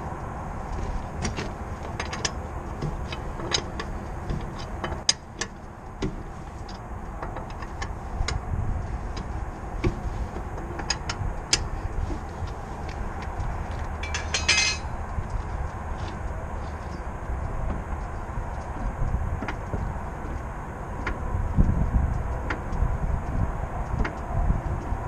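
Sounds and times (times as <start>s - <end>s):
road and tyre rumble: 0.0s - 25.0s
sharp clicks and knocks: 0.2s - 25.0s.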